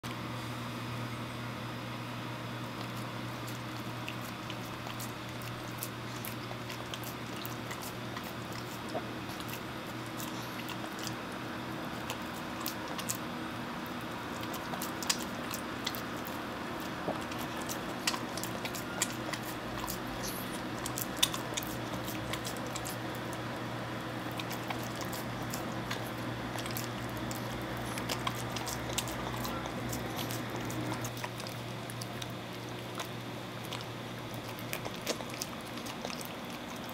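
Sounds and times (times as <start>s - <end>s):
steady low hum: 0.1s - 36.9s
dog chewing and licking: 2.6s - 36.9s.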